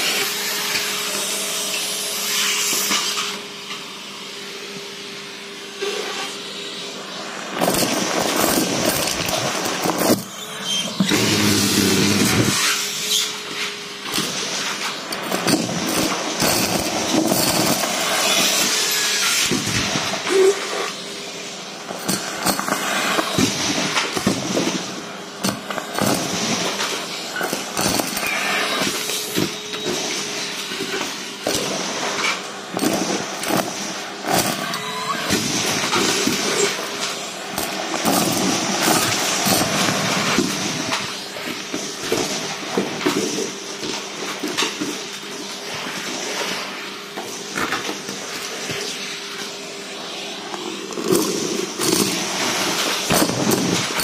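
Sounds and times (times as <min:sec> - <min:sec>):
vacuum cleaner motor hum: 0:00.0 - 0:54.0.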